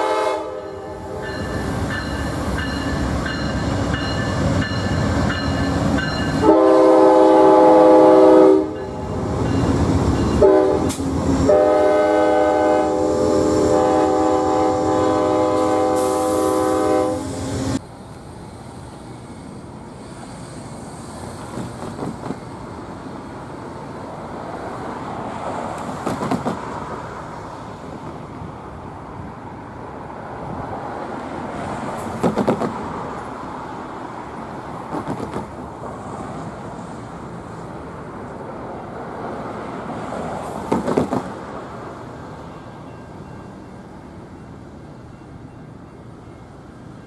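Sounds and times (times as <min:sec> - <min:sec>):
traffic noise: 0:00.0 - 0:47.0.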